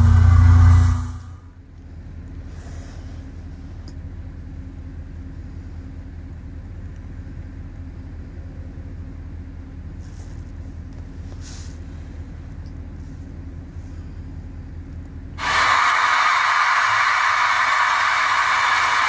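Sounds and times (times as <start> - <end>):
limousine engine running: 0.0 - 19.0.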